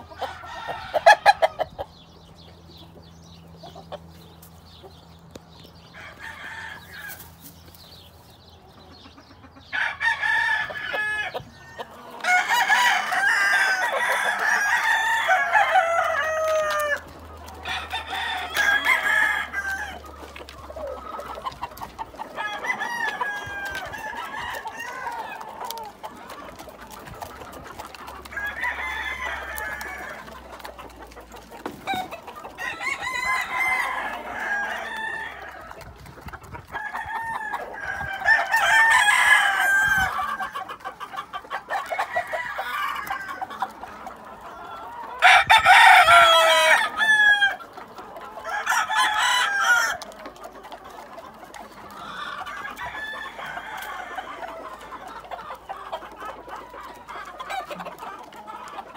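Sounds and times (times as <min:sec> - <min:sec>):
roosters crowing: 0:00.0 - 0:03.0, 0:05.5 - 0:08.6, 0:09.6 - 0:58.9.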